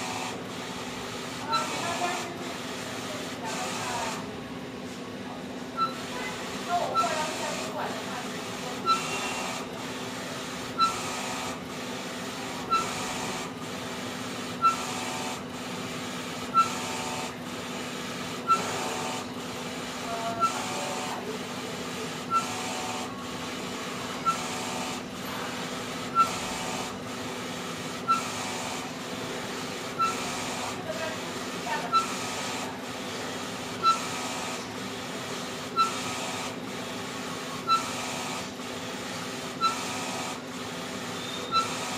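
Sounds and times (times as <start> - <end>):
printer mechanical hum: 0.0 - 41.9.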